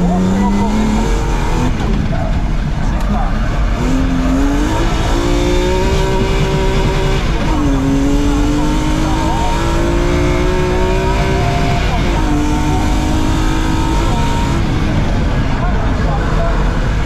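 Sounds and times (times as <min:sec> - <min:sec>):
car engine accelerating through gears: 0:00.0 - 0:17.0.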